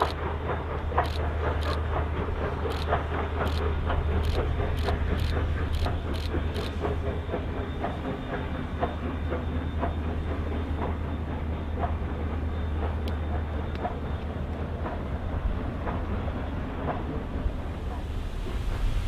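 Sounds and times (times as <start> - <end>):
train low rumble: 0.0 - 19.0
train wheels clicking over joints: 0.0 - 19.0.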